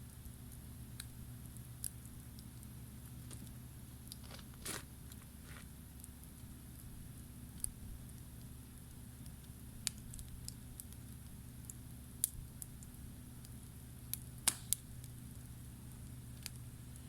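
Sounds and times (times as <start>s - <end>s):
campfire crackling and popping: 0.0s - 17.0s
low steady hum: 0.0s - 17.0s.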